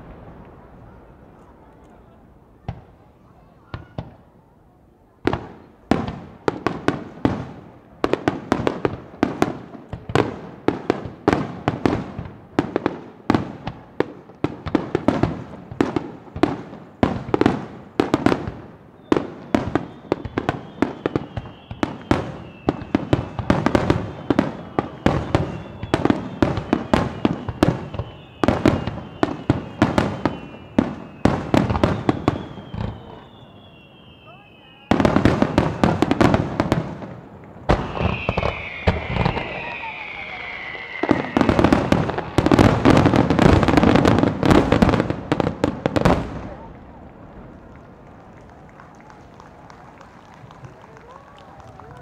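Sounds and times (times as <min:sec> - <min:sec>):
fireworks bursting: 0:00.0 - 0:04.5, 0:05.2 - 0:52.0.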